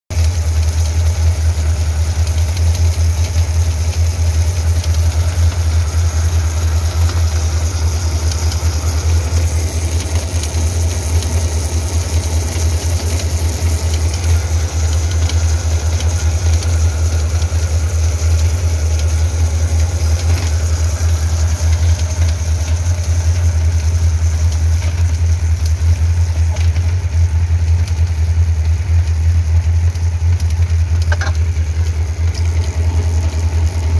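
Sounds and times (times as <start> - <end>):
motorcycle engine running: 0.1 - 33.9
drive chain noise: 0.2 - 33.9.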